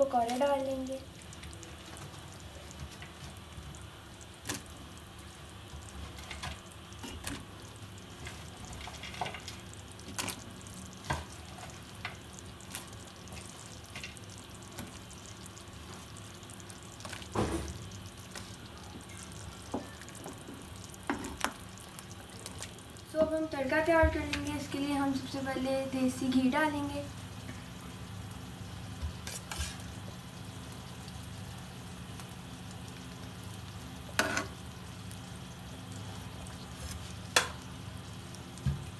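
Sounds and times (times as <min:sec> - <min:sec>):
pot simmering with bubbling: 0:00.0 - 0:38.9.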